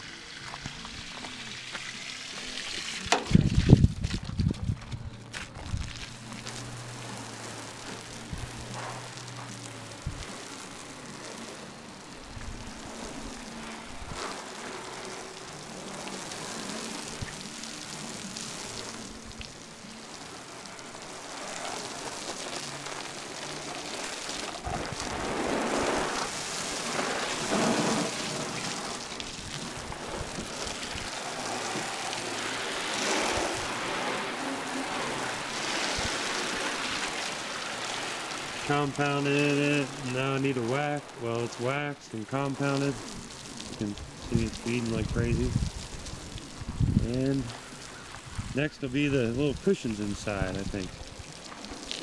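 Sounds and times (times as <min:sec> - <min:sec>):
hose spray splashing on boat: 0:00.0 - 0:52.0.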